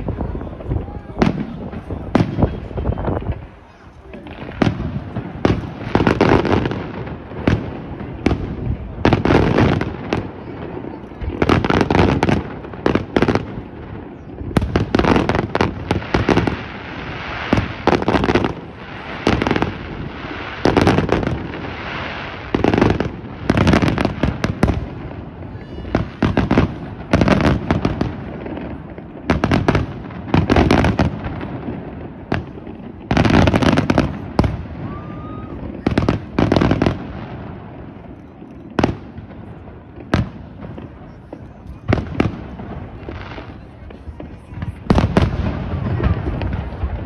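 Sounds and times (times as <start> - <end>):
fireworks bursting with sharp bangs: 0.0 - 47.0
fireworks crackling: 0.0 - 47.0.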